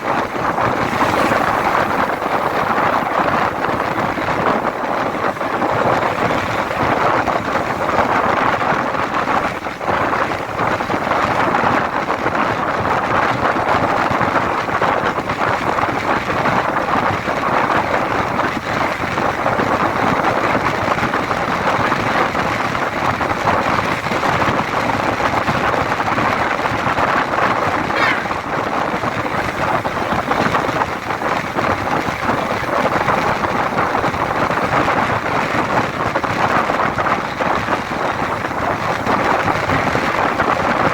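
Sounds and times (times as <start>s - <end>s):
traffic noise: 0.0s - 40.9s
wind noise: 0.0s - 40.9s.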